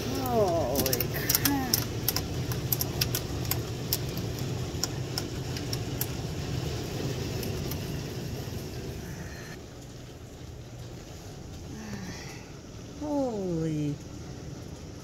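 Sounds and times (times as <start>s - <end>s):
hailstones striking: 0.0s - 13.2s
heavy rain: 0.0s - 15.0s.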